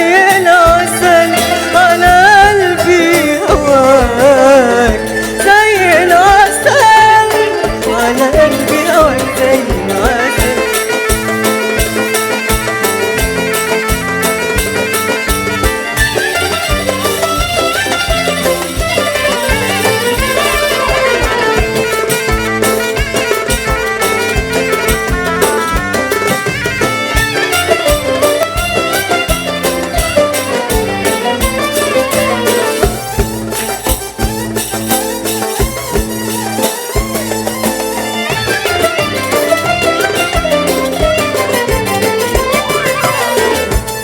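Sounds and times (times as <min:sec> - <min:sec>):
steady percussion beat: 0:00.0 - 0:44.0
winding instrumental melody: 0:00.0 - 0:44.0.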